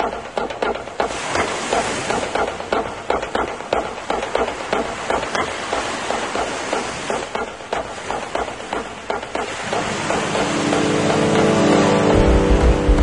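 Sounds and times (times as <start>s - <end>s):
fast sharp taps: 0.0s - 11.8s
surf breaking on rocks: 1.0s - 13.0s.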